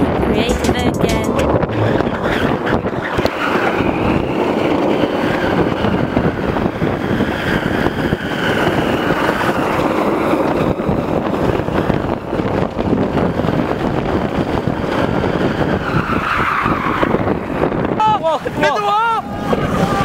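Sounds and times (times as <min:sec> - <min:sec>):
wheels rolling on asphalt: 0:00.0 - 0:20.0
wind buffeting microphone: 0:00.0 - 0:20.0.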